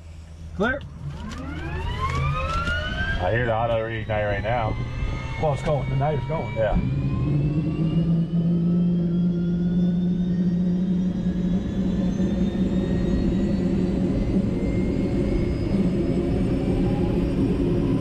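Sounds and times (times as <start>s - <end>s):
helicopter turbine whine rising: 0.0s - 18.0s
low engine drone: 0.0s - 18.0s.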